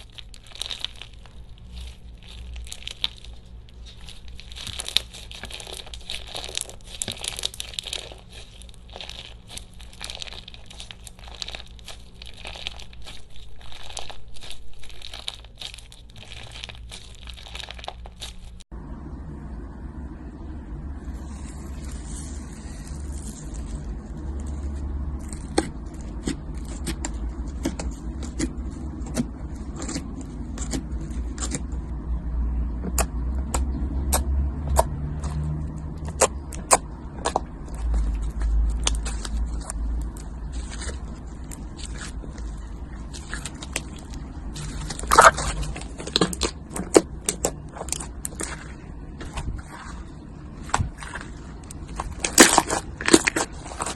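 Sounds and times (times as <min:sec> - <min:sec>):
slime crackling: 0:00.0 - 0:18.7, 0:20.3 - 0:53.9
low rumbling handling sound: 0:00.0 - 0:53.9.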